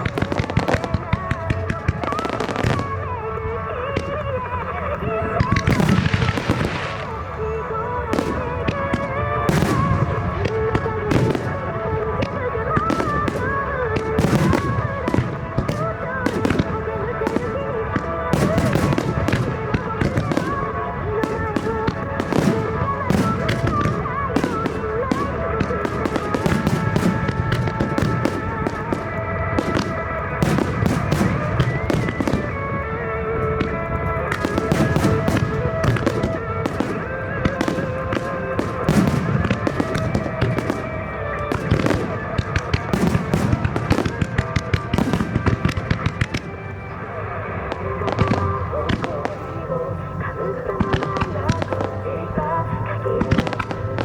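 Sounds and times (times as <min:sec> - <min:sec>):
fireworks bursting and crackling: 0:00.0 - 0:54.0
music: 0:00.0 - 0:54.0
song over loudspeakers: 0:00.0 - 0:54.0.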